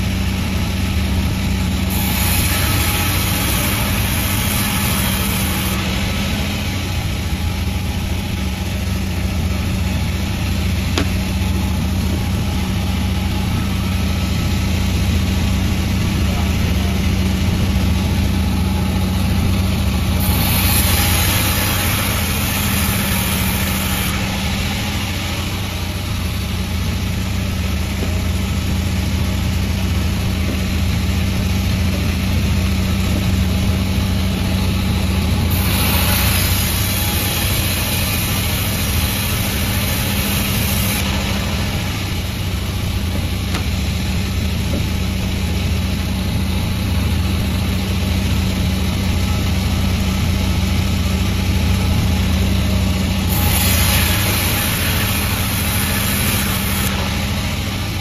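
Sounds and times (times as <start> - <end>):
saw hissing through log: 0.0 - 58.0
sawmill machine humming: 0.0 - 58.0.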